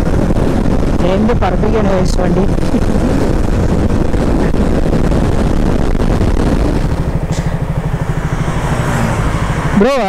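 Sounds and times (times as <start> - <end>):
motorcycle engine: 0.0 - 10.0
motorcycle engine idling: 0.0 - 10.0
wind noise: 0.0 - 10.0.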